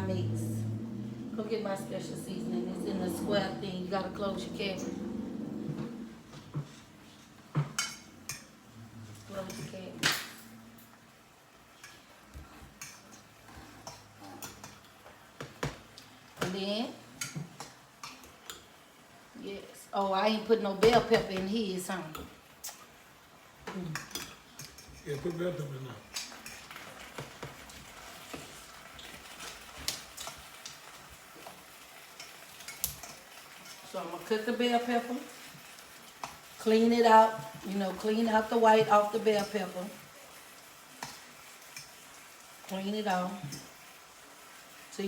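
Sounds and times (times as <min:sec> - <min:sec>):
food sizzling in a pan: 0:00.0 - 0:45.0.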